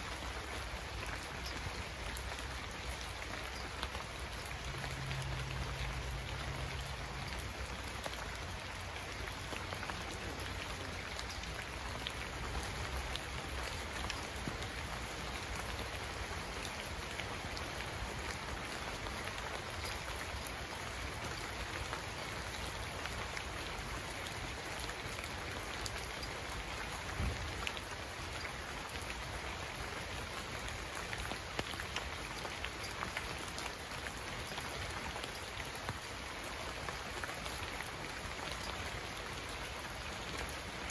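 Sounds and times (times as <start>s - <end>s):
raindrop ticks: 0.0s - 40.9s
steady rain falling: 0.0s - 40.9s.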